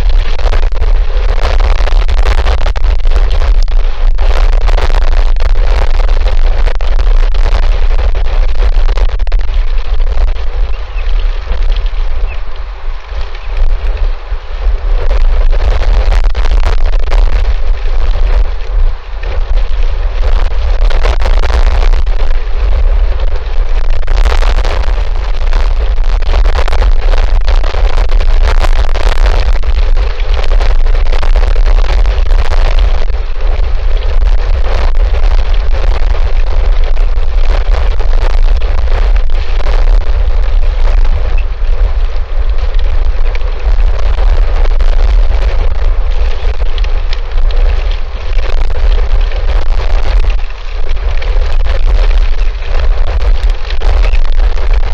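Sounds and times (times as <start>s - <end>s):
strong wind buffeting microphone: 0.0s - 54.9s.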